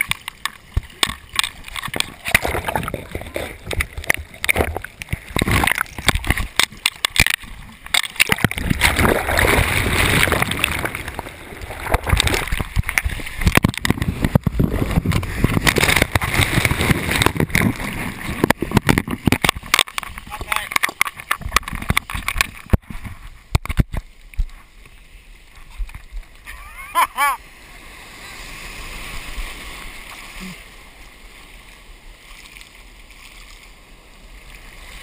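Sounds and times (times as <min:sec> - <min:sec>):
water sloshing and splashing: 0:00.0 - 0:26.5, 0:27.4 - 0:35.0.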